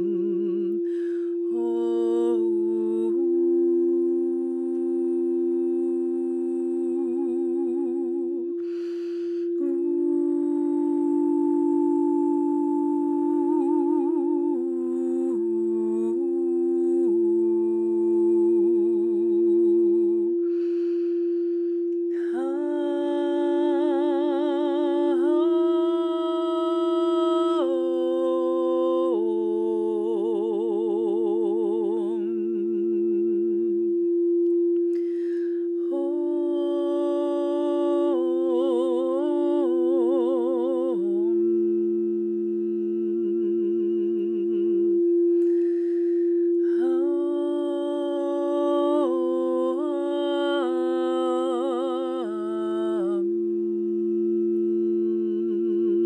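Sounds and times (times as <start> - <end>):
crystal singing bowl tone: 0.0 - 56.0
woman singing wordless tones: 0.0 - 56.0.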